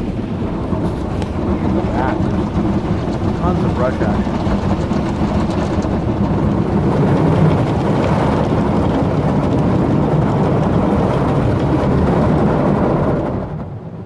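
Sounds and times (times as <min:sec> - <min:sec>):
car wash brushes churning: 0:00.0 - 0:12.7.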